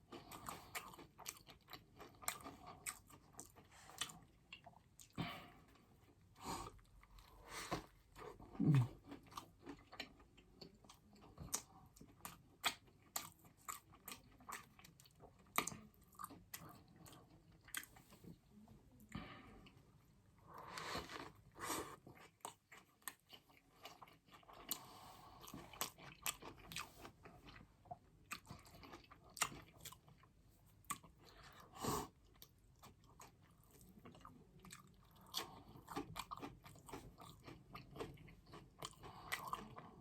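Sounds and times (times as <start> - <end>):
person chewing food: 0.0 - 18.4, 19.0 - 40.0.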